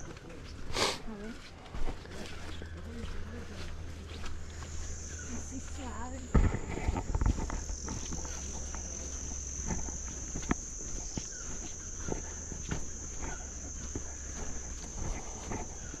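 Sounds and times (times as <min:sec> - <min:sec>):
footsteps on trail: 0:00.0 - 0:16.0
cicadas buzzing: 0:02.2 - 0:16.0.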